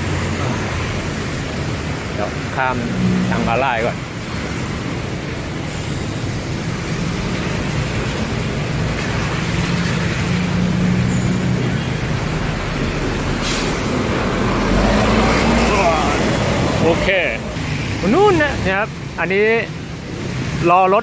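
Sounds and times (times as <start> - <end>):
vehicles passing: 0.0 - 21.0.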